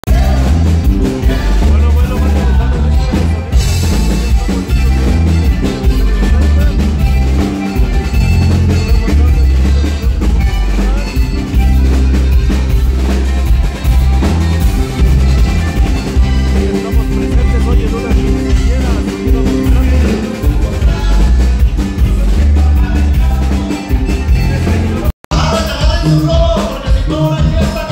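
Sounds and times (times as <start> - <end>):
button accordion: 0.0 - 27.9
drum kit: 0.0 - 27.9
heavy bass line: 0.0 - 27.9
upbeat dance music band: 0.0 - 27.9.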